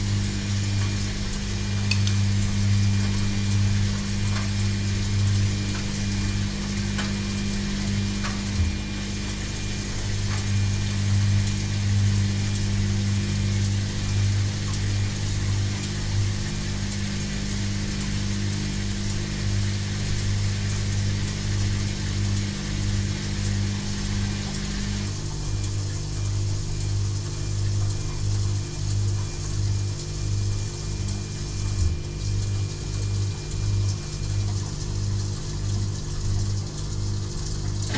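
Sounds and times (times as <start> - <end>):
washing machine running: 0.0 - 37.9.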